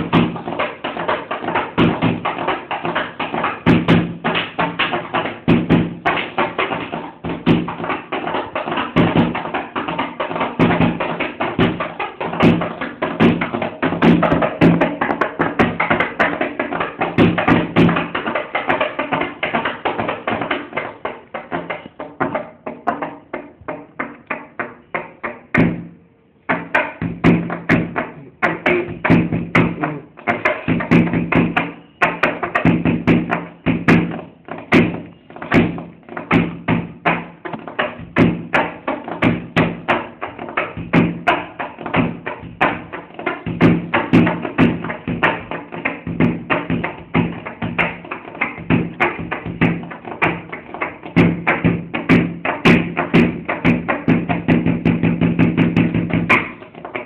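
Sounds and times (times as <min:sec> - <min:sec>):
fast tapping on a bench: 0:00.0 - 0:25.9, 0:26.5 - 0:57.0.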